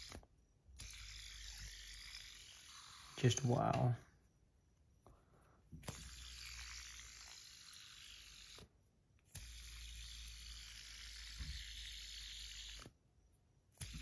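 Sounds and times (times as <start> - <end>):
fidget spinner whirring: 0.0 - 3.9, 5.7 - 13.0, 13.7 - 14.0.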